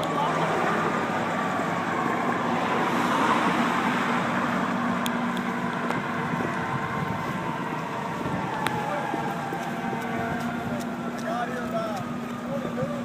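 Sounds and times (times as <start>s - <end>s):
traffic rushing on a bridge: 0.0s - 13.0s
vehicle engine hum: 0.0s - 13.0s.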